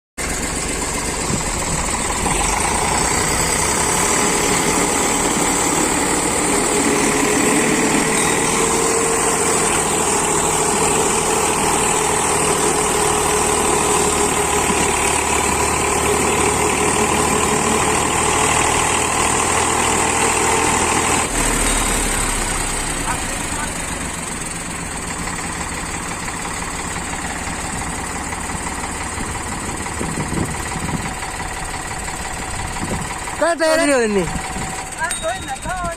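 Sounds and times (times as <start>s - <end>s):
tractor diesel engine running: 0.2s - 35.9s.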